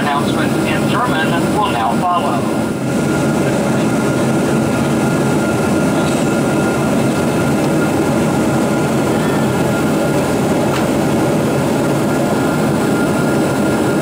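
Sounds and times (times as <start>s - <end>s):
wheels and jet engines rumbling: 0.0s - 14.0s.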